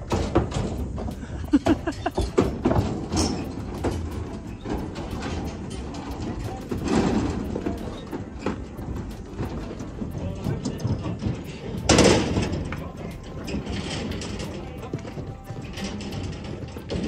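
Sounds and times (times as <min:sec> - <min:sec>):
knocks and clatters: 0:00.0 - 0:17.0
distant indistinct voices: 0:03.2 - 0:17.0.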